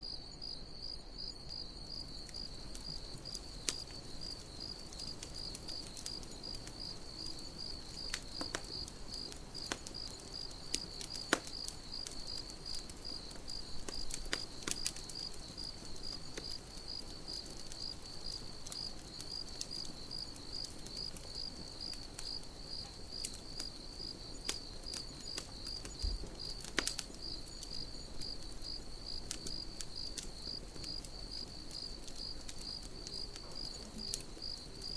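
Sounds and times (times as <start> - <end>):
crickets chirping: 0.0 - 34.9
campfire popping and crackling: 1.2 - 34.9.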